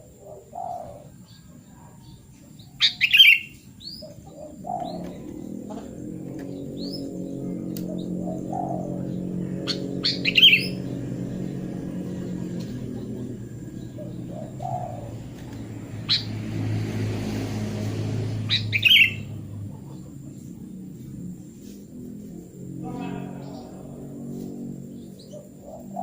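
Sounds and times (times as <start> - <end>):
bird chirping: 0.0 - 26.0
steady low hum: 0.0 - 26.0.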